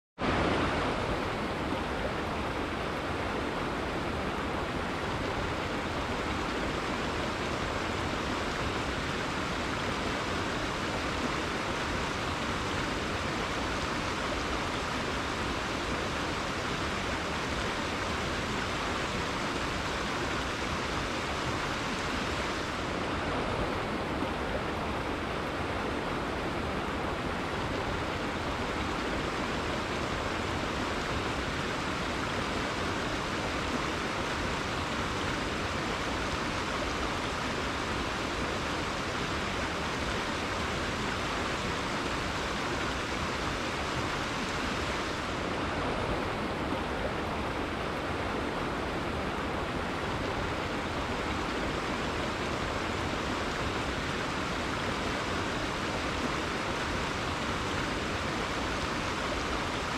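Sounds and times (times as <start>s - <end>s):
river water flowing: 0.2s - 59.9s.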